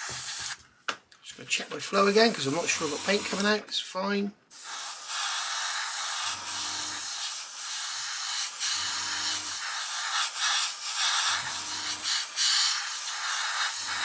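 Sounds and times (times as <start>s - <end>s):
airbrush spraying hiss: 0.0s - 0.6s, 1.9s - 3.5s, 4.5s - 14.0s.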